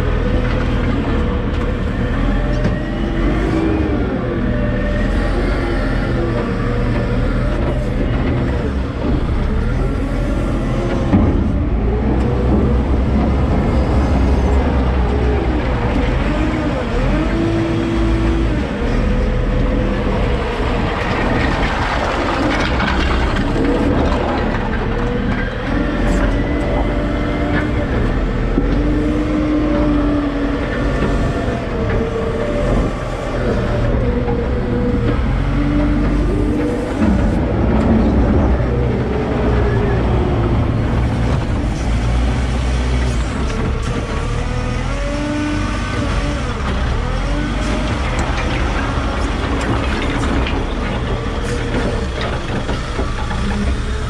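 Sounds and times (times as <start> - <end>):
diesel engine revving: 0.0 - 54.0
logs scraping along concrete: 0.2 - 54.0.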